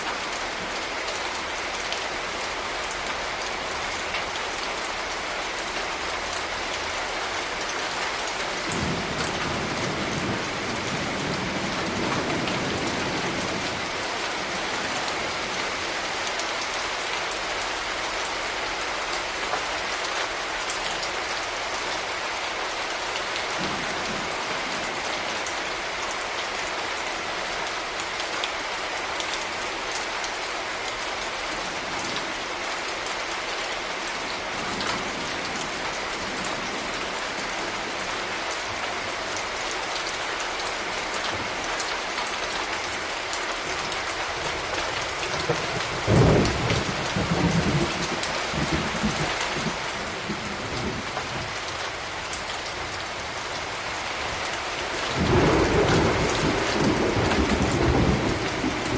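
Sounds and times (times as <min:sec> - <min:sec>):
rain on hard surfaces: 0:00.0 - 0:58.9.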